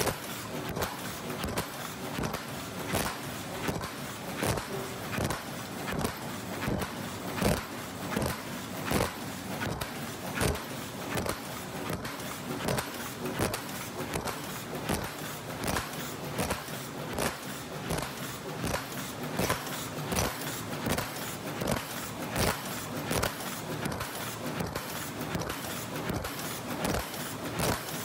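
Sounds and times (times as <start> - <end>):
machine clattering with sharp clacks: 0.0 - 28.0.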